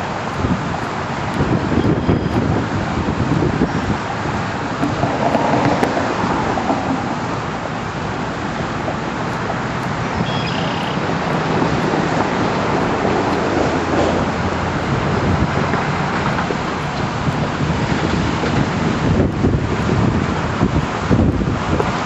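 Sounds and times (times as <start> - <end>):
car road and engine noise: 0.0 - 22.0
wind buffeting microphone: 0.0 - 22.0.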